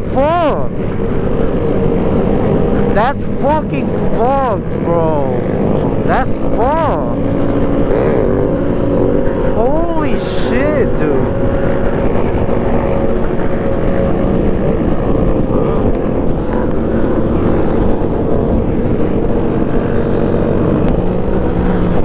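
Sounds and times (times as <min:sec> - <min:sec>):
small motorcycle engine running: 0:00.9 - 0:22.0.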